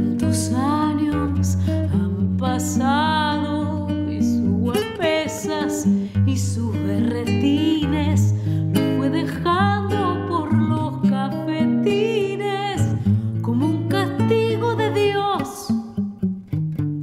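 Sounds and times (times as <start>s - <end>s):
woman singing with vibrato: 0.0s - 16.0s
classical guitar plucking: 0.0s - 17.0s.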